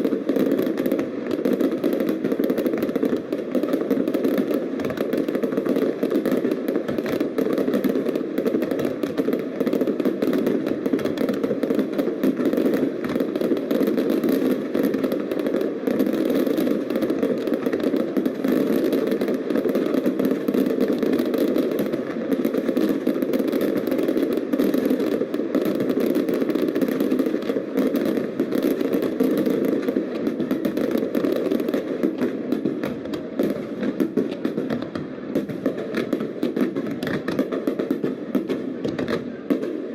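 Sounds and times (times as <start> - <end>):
fireworks bangs: 0.0 - 39.9
fireworks crackle: 0.0 - 39.9.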